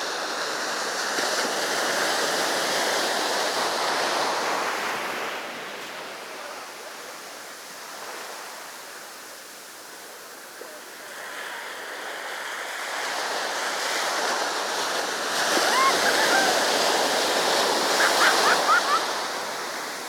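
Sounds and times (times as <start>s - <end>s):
sea surf washing on beach: 0.0s - 20.0s.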